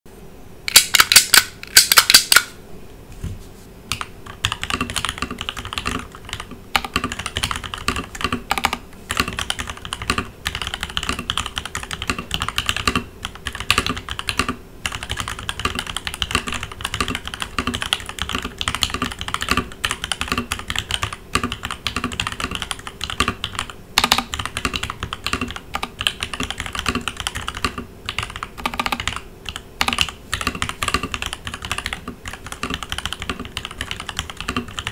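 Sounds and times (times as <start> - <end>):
typing on mechanical keyboard: 3.9 - 34.9.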